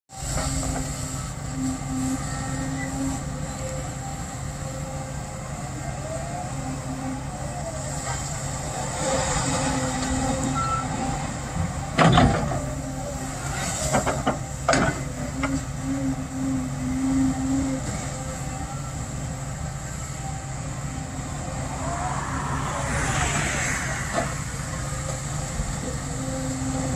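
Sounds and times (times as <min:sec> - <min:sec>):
excavator diesel engine running: 0:00.1 - 0:26.9
hydraulic whines: 0:00.1 - 0:26.9.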